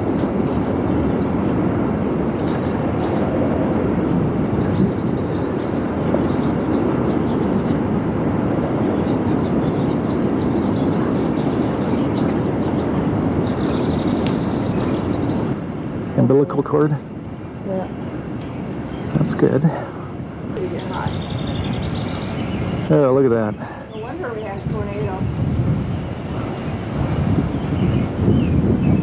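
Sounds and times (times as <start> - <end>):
strong wind on microphone: 0.0 - 29.0.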